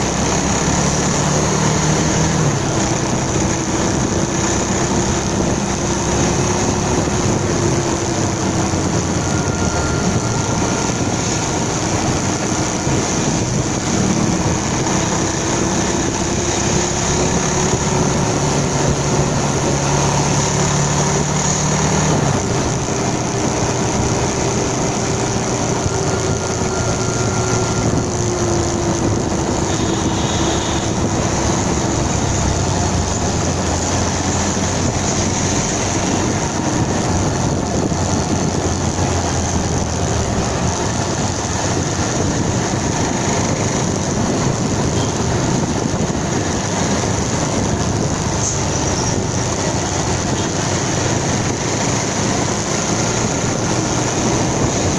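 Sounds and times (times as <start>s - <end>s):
motorcycle engine riding: 0.0s - 54.9s.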